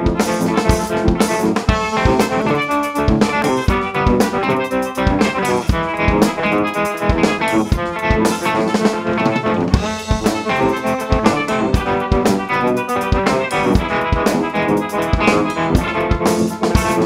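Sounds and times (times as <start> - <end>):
drum kit playing a beat: 0.0 - 17.0
synth-like electric guitar pattern: 0.0 - 17.0.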